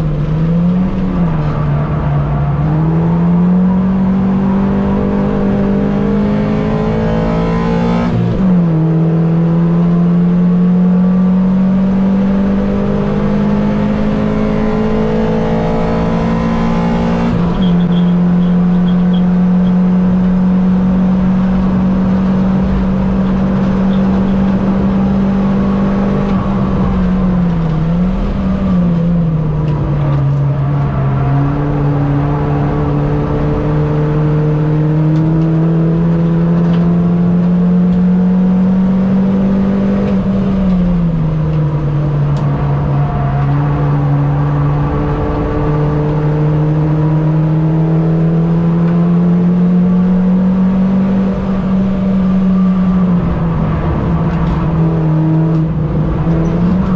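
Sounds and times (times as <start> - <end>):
race car engine revving: 0.0 - 56.9
road and wind noise: 0.0 - 56.9.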